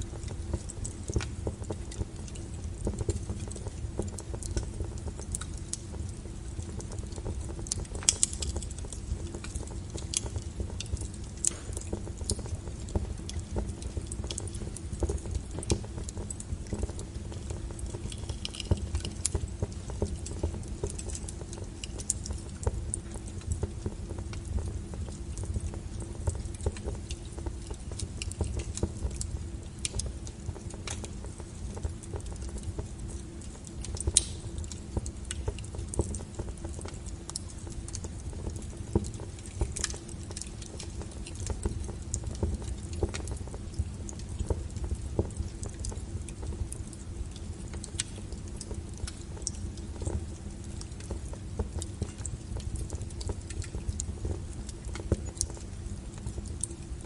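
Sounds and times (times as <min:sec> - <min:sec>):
low rumble of flames: 0:00.0 - 0:57.0
wood fire pops and snaps: 0:00.0 - 0:57.0.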